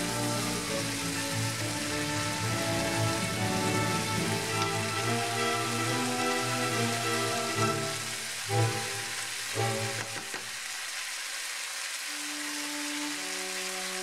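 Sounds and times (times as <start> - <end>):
background music: 0.0 - 10.3, 12.1 - 14.0
food sizzling in frying pan: 0.0 - 14.0.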